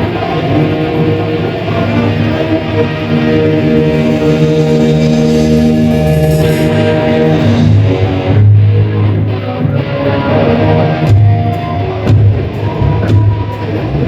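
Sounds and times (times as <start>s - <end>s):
heavy bass line: 0.0s - 14.0s
live hard rock band playing: 0.0s - 14.0s.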